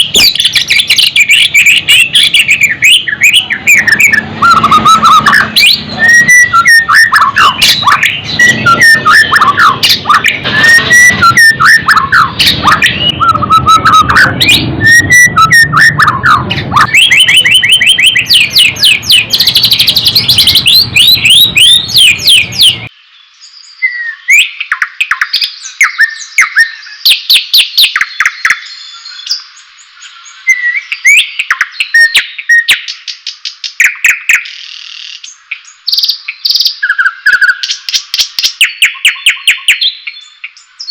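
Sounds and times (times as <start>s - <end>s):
bird singing whistled phrases: 0.0s - 40.9s.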